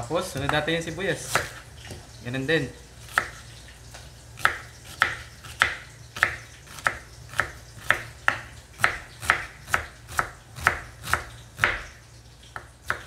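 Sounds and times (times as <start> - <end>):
knife slicing onion on wooden board: 0.2 - 2.1, 3.0 - 13.0.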